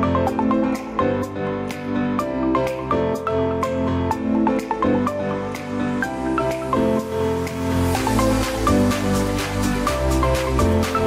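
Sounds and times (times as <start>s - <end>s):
soft melodic instrumental music: 0.0s - 11.0s.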